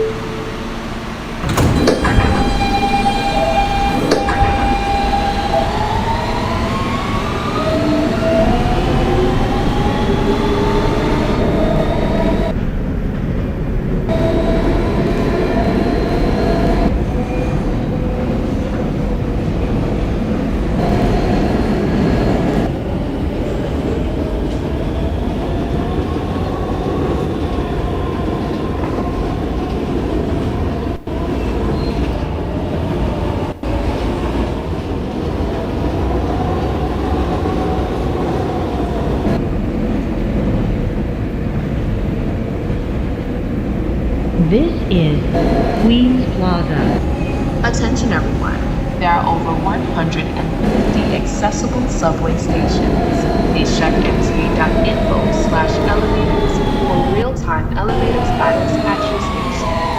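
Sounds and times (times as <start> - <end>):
subway traction motors whining: 0.0 - 59.9
wheels rumbling on track: 0.0 - 59.9.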